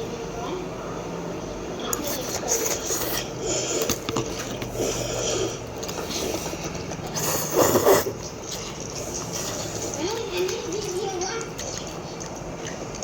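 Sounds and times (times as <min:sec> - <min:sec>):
slurping and chewing noodles: 0:01.9 - 0:13.0.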